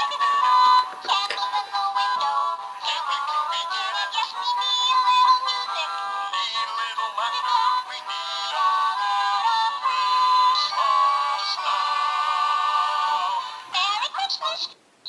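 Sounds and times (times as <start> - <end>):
tinny toy speaker song: 0.0 - 14.7.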